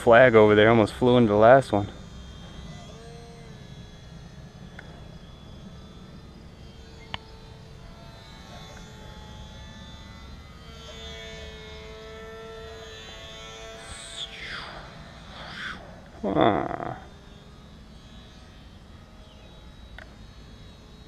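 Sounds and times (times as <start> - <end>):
small electric motor whine: 0.0 - 21.0.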